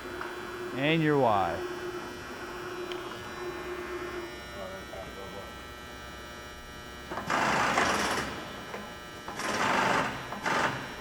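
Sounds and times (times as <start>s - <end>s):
machine electrical hum: 0.0s - 11.0s.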